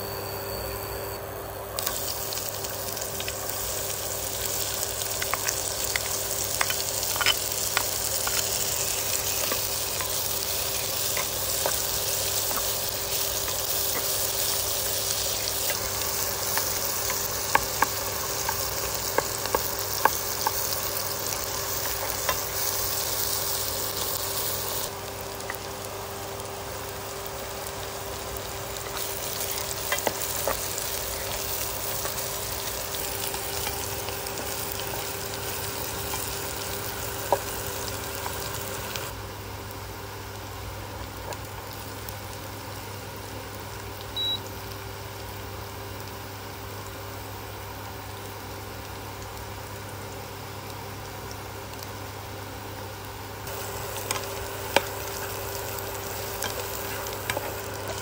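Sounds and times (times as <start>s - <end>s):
garlic sizzling in hot oil: 1.6s - 58.0s.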